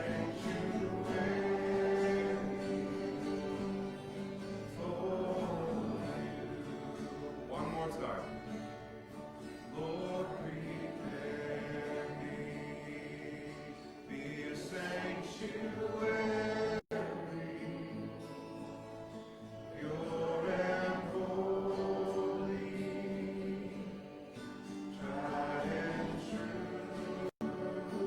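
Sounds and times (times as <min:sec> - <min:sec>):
group singing worship song: 0:00.0 - 0:28.0.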